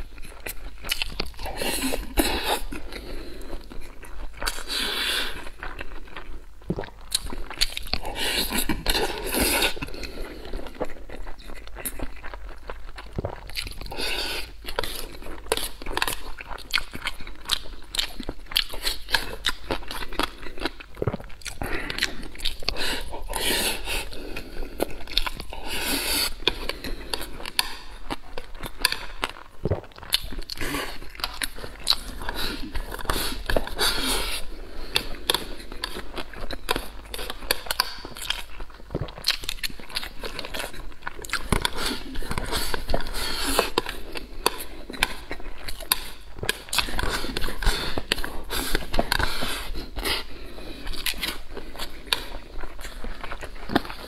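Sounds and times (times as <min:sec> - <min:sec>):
person chewing and smacking: 0:00.0 - 0:54.0.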